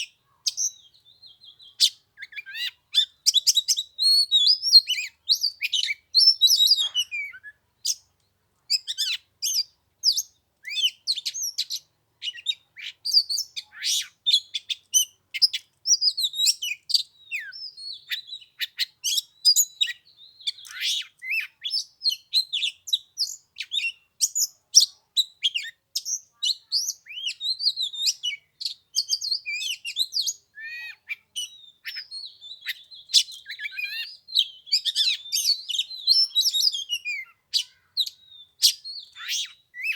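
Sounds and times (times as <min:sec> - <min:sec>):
bird singing whistles and chirps: 0:00.0 - 0:08.1, 0:08.7 - 0:39.9.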